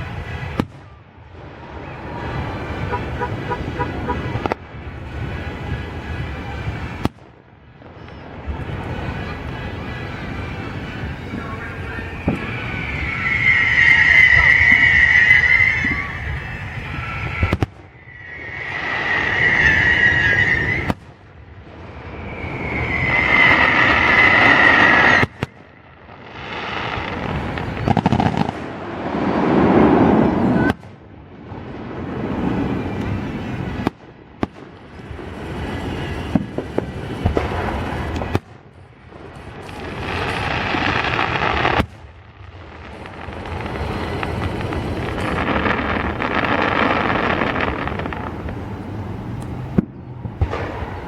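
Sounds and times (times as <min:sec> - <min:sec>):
fireworks bursting and crackling: 0:00.0 - 0:51.0.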